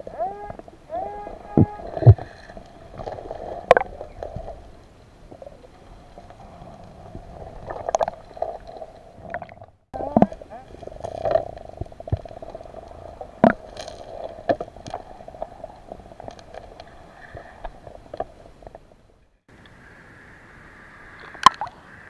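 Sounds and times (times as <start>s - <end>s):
muffled underwater sound: 0.0s - 18.8s
wave splashing against camera: 0.0s - 18.8s.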